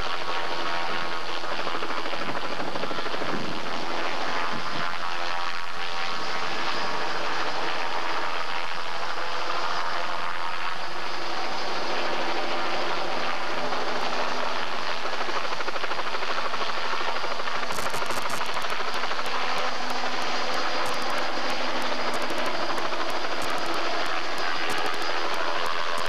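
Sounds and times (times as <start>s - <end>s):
helicopter rotor and turbine: 0.0s - 26.0s.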